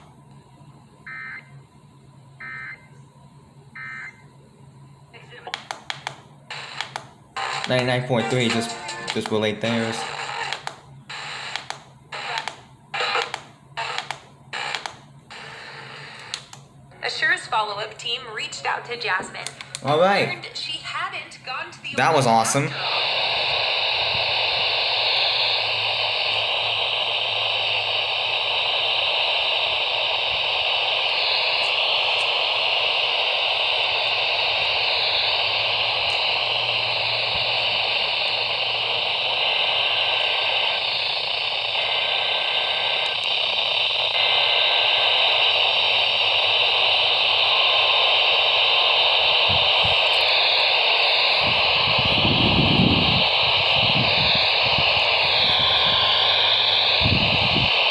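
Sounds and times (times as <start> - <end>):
radio static hiss: 5.0 - 57.9.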